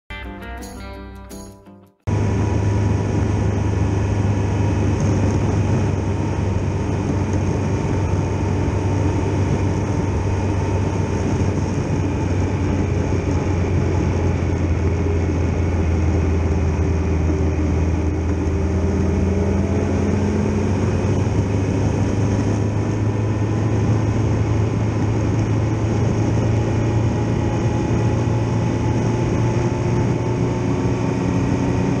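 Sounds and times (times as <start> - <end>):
motorcycle engine running: 2.1 - 32.0.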